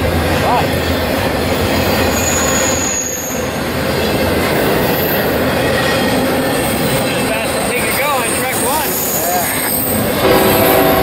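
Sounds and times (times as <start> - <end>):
freight train rolling past: 0.0 - 11.0.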